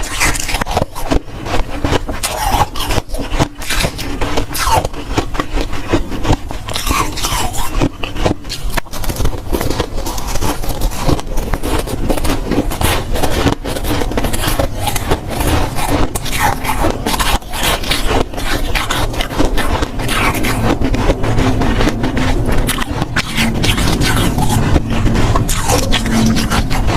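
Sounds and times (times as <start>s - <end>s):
person chewing frost crunchily: 0.0s - 26.9s.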